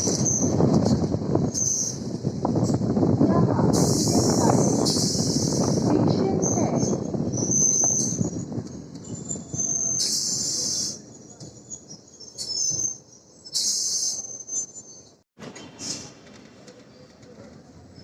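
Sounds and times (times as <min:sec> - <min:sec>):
train wheels squealing on rails: 0:00.0 - 0:02.8, 0:03.7 - 0:18.0
train rumble: 0:00.0 - 0:18.0.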